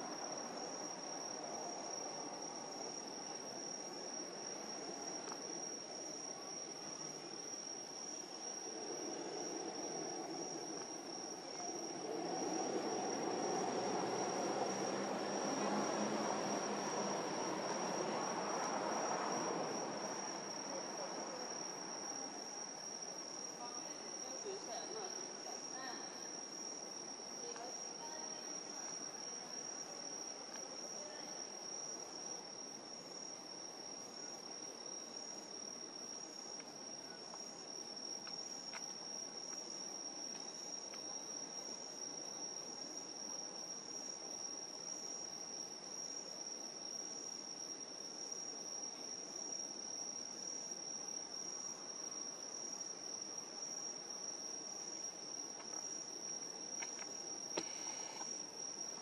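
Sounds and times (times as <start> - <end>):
insects trilling: 0.0 - 59.0
pulsing insect chirp: 0.0 - 59.0.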